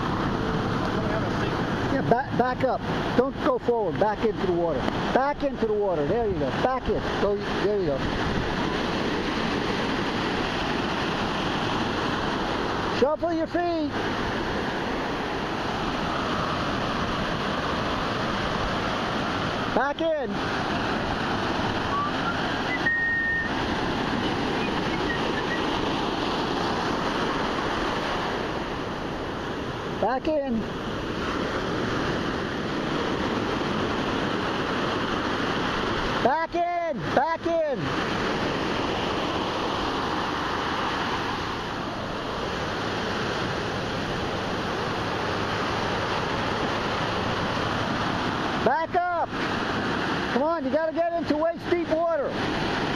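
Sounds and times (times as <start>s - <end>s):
ocean surf breaking on sand: 0.0s - 52.9s.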